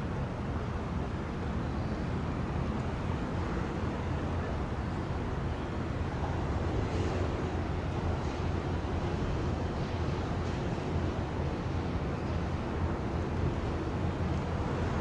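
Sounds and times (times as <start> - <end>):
wind and sea rushing: 0.0 - 15.0.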